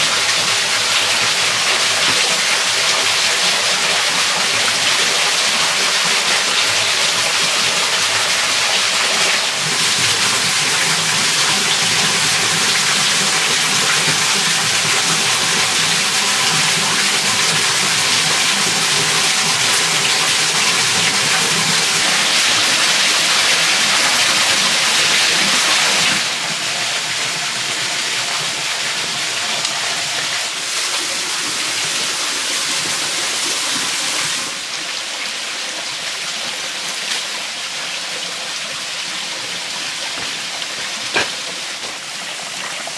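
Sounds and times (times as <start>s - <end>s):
waterfall and stream rushing: 0.0s - 42.9s.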